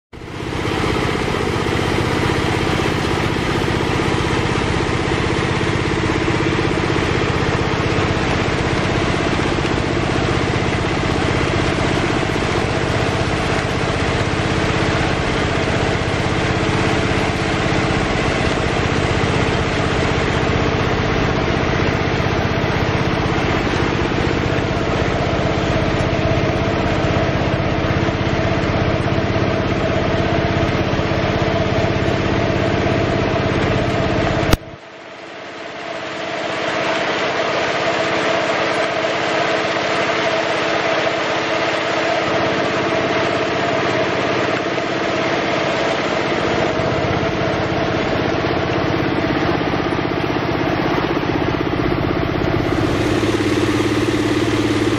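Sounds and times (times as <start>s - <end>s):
small engine running: 0.2s - 54.9s.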